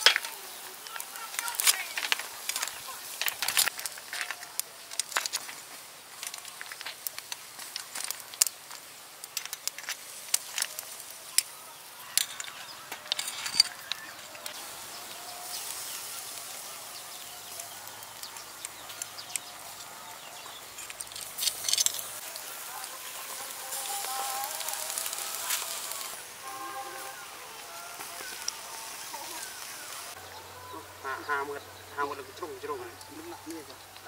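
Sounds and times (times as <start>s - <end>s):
faint sizzle: 0.0s - 13.1s, 13.7s - 34.0s
snails crackling on a grill: 0.0s - 34.0s.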